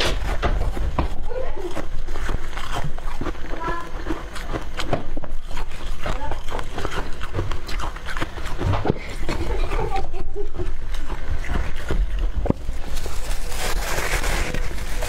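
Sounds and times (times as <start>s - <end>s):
frost chunks crunching: 0.0s - 15.0s.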